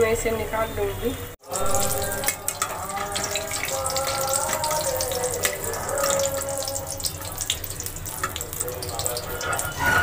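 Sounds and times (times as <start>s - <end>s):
food deep-frying in hot oil: 0.1s - 10.0s.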